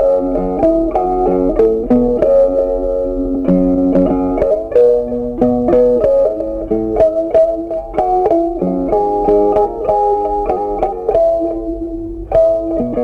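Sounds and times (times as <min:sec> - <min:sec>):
plucked guitar melody: 0:00.0 - 0:13.0.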